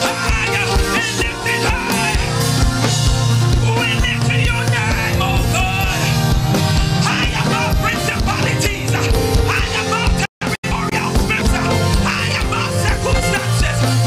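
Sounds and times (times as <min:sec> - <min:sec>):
bass: 0:00.0 - 0:14.0
drum beat: 0:00.0 - 0:14.0.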